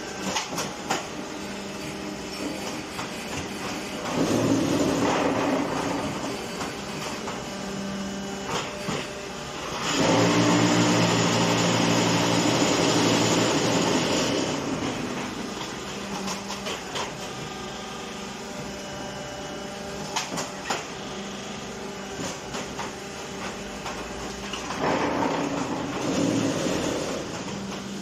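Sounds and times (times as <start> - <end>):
block making machine motor hum: 0.0 - 28.0.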